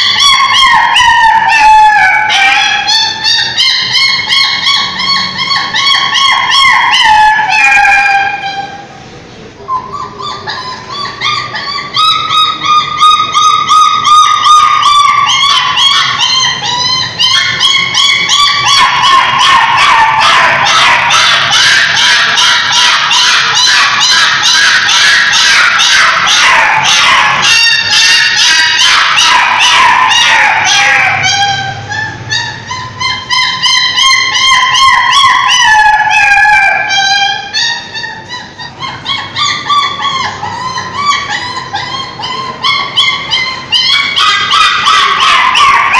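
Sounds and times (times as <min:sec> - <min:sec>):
dogs howling and whimpering: 0:00.0 - 0:08.9, 0:09.7 - 0:45.9
dogs yipping: 0:00.0 - 0:08.9, 0:09.7 - 0:45.9.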